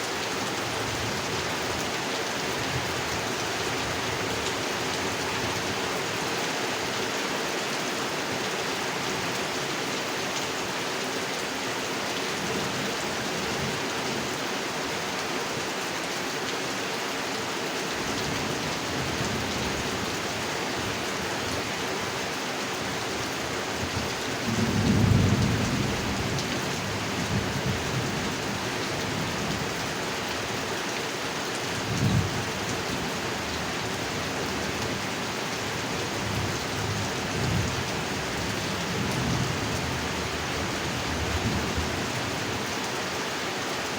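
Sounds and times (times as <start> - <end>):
heavy rain on a pond: 0.0 - 43.9.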